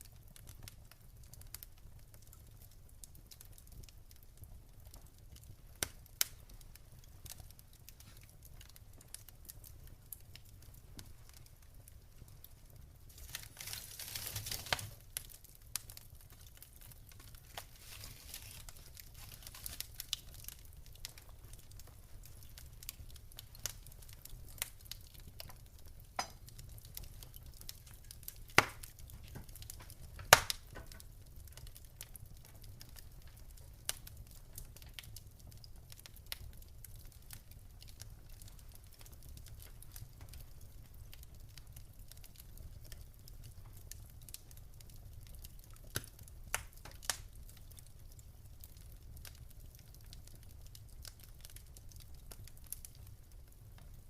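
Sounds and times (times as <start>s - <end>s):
wood fire crackling in a fireplace: 0.0s - 54.0s.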